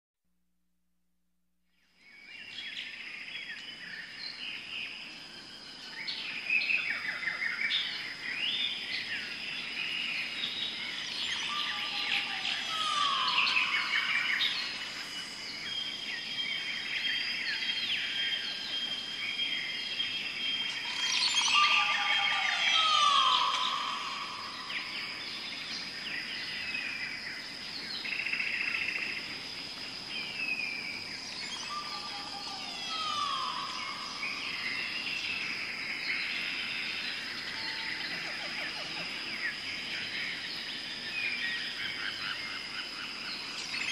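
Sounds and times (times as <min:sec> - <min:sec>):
birds chirping and trilling: 0:02.0 - 0:43.9.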